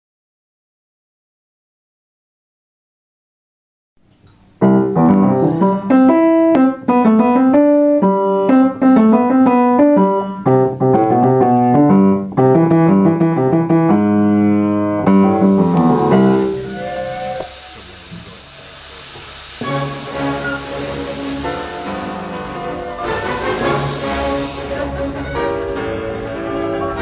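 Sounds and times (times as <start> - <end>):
piano music: 4.5 - 27.0.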